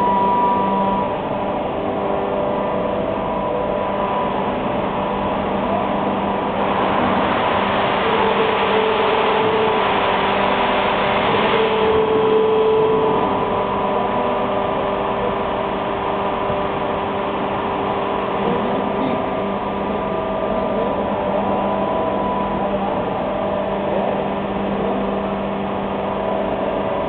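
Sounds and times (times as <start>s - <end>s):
cutting machine droning: 0.0s - 25.4s.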